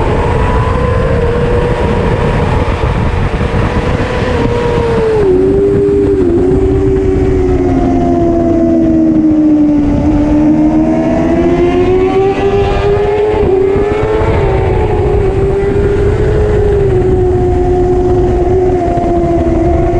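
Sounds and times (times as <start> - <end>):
motorbike engine at high revs: 0.0 - 19.9
wind noise: 0.0 - 19.9.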